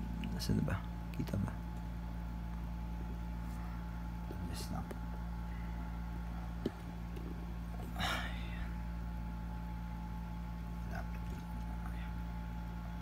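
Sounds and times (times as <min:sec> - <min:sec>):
faint steady whine: 0:00.0 - 0:13.0
low electrical hum: 0:00.0 - 0:13.0.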